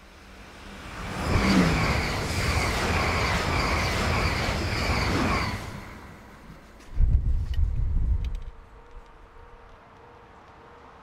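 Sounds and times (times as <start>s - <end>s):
high-speed train passing: 0.0s - 11.0s.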